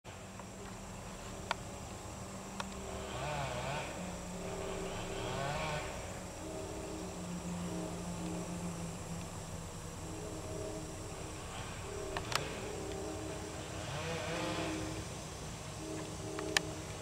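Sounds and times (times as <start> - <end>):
diesel construction machinery drone: 0.1 - 17.0
insect trill: 0.1 - 17.0.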